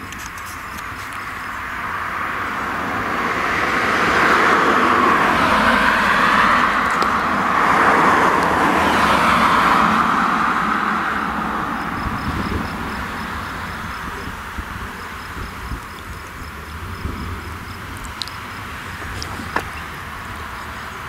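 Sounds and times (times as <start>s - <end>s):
tractor running: 0.0s - 21.0s.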